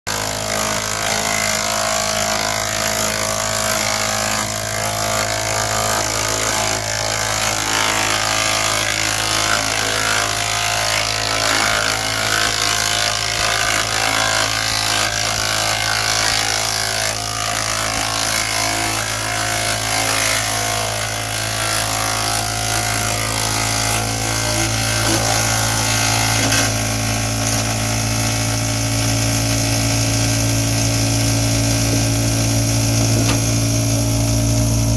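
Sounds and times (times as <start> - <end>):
wood chipper running: 0.1 - 34.9.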